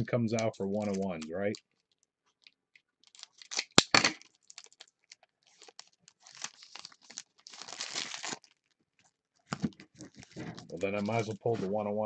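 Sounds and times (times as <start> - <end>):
foil wrapper tearing and crinkling: 0.3 - 11.8.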